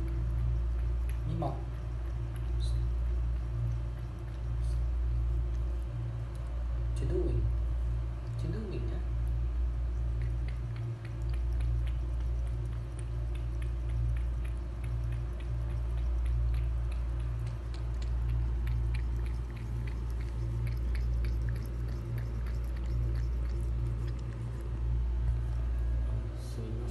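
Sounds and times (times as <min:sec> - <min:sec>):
cat lapping water: 0:00.0 - 0:06.6, 0:09.7 - 0:26.0
steady low hum: 0:00.0 - 0:26.9.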